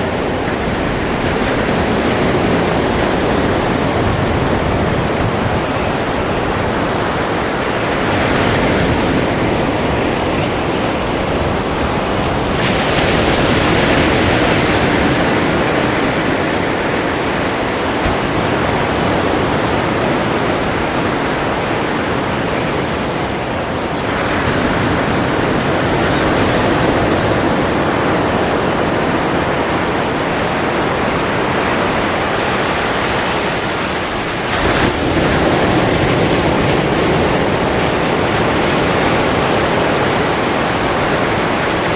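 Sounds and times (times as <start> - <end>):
ocean waves breaking: 0.0 - 41.9.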